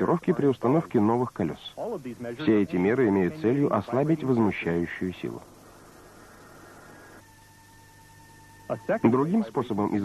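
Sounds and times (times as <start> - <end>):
background hiss and hum: 0.0 - 10.0
faint steady high tone: 0.3 - 10.0.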